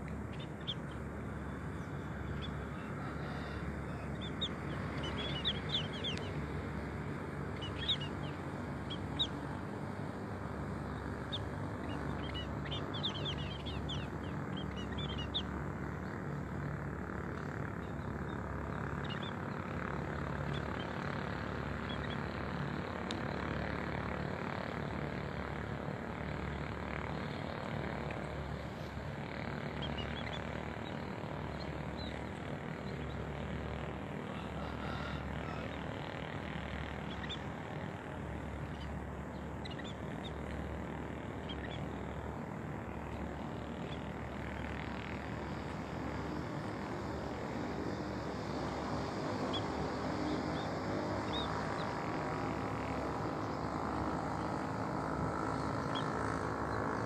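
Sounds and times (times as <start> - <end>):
low mechanical drone: 0.0 - 57.0
small birds chirping: 0.0 - 57.0.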